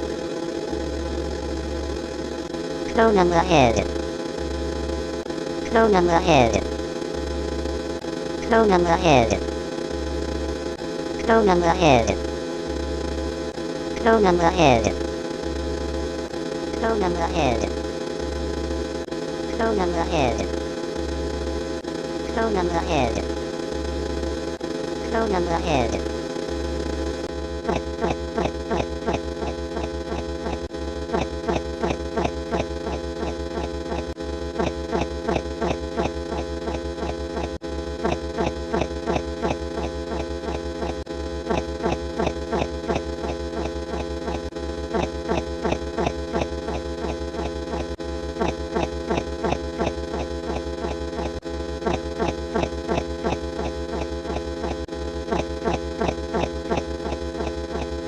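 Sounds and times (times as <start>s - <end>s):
electronic buzzing hum: 0.0s - 58.0s.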